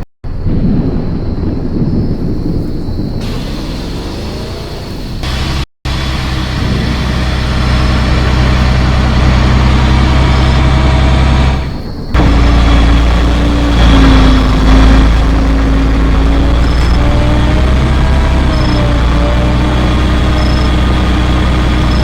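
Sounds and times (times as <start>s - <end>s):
vehicle engine running: 3.2s - 22.0s.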